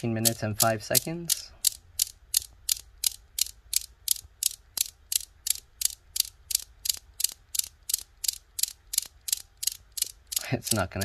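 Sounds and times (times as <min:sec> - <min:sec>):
metal balls clacking: 0:00.0 - 0:11.0.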